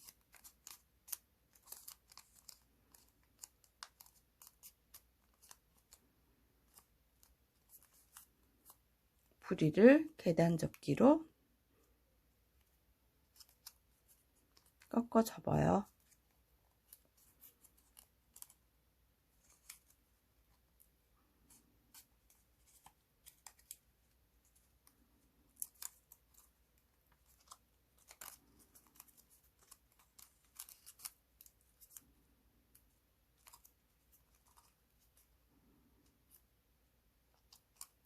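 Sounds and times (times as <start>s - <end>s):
paper crackling and crinkling: 0.0s - 9.5s, 13.2s - 15.0s, 15.8s - 36.5s, 37.2s - 38.0s.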